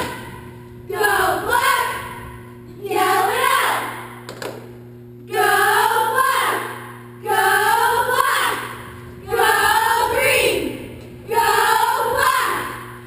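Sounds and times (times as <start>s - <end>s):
cheerleaders chanting in unison: 0.0s - 4.2s, 5.3s - 13.0s.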